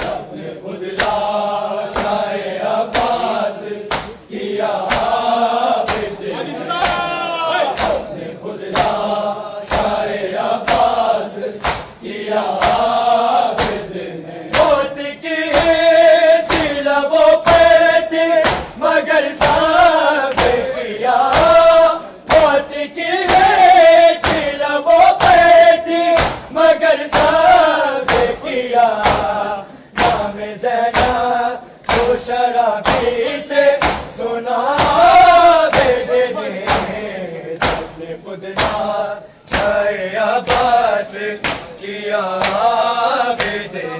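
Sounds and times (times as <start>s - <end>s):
hand slaps on bare chests: 0.0s - 6.2s, 6.8s - 13.9s, 14.5s - 14.9s, 15.5s - 16.8s, 17.4s - 41.8s, 42.4s - 42.7s, 43.3s - 43.7s
men chanting in unison: 0.0s - 43.9s.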